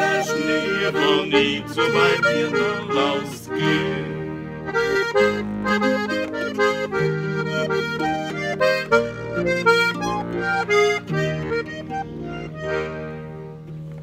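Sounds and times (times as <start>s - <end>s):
button accordion chords: 0.0s - 14.0s.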